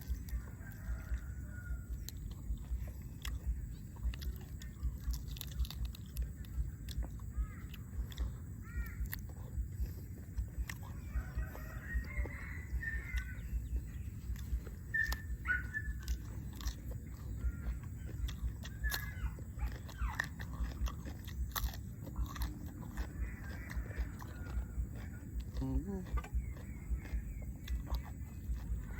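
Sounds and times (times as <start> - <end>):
chickens clucking: 0.0 - 28.9
clicks of chickens eating: 0.0 - 28.9.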